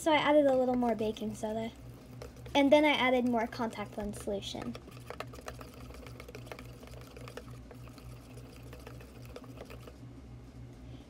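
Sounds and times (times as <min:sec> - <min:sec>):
slime stirred in metal bowl: 0:00.0 - 0:10.0.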